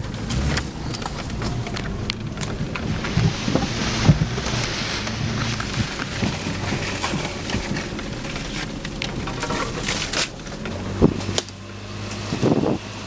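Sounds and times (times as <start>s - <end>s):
clicks and knocks from car body: 0.0s - 11.6s
car engine hum: 0.0s - 13.0s.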